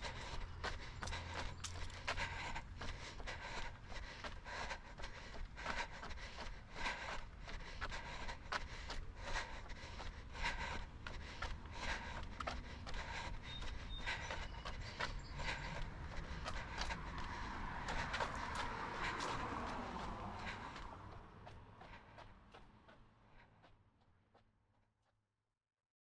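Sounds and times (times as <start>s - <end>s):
car passing: 0.0s - 23.6s
hard breathing: 0.0s - 24.4s
footsteps on concrete: 0.0s - 24.5s.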